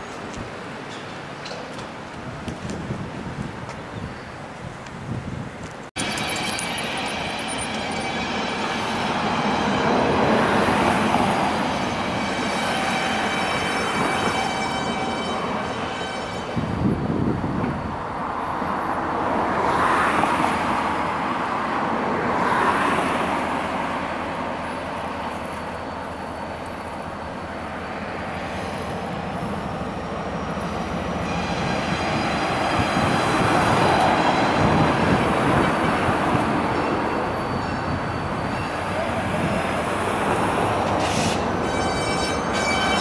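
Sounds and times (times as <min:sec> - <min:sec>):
train wheels rumbling on rail: 0:00.0 - 0:04.0, 0:04.8 - 0:43.0.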